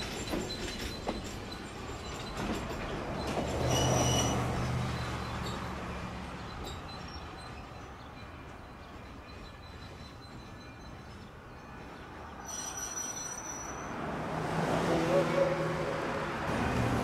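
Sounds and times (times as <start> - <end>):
passenger train rumbling: 0.0 - 17.0.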